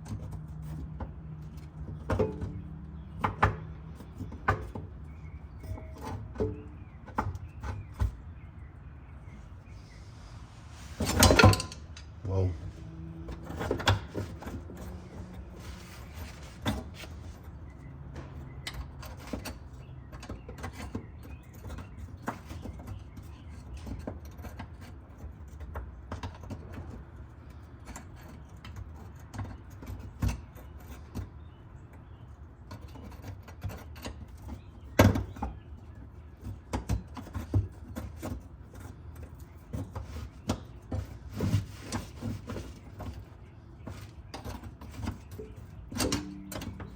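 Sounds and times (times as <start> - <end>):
hand tools clicking and knocking: 0.0 - 8.2, 11.0 - 12.3, 13.1 - 32.0, 32.6 - 46.9.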